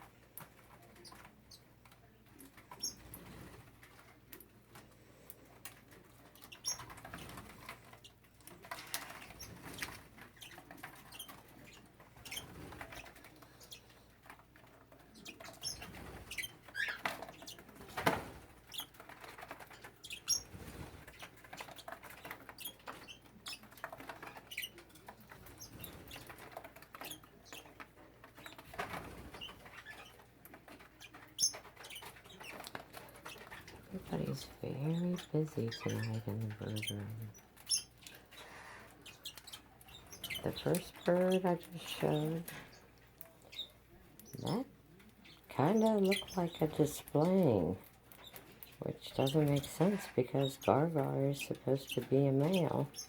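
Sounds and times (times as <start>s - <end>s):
birds rustling and scrabbling: 0.0s - 53.0s.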